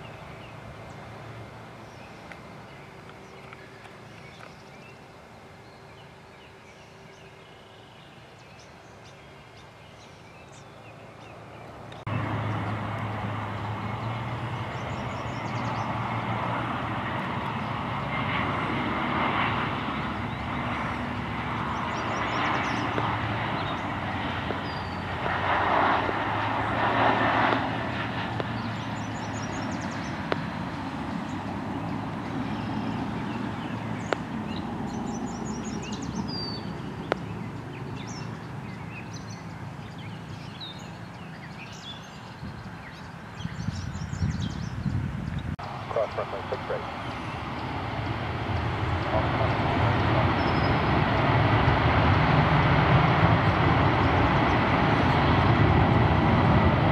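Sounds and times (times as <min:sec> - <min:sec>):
jet engines running: 0:00.0 - 0:07.2, 0:10.5 - 0:56.9
birds chirping: 0:00.0 - 0:56.0.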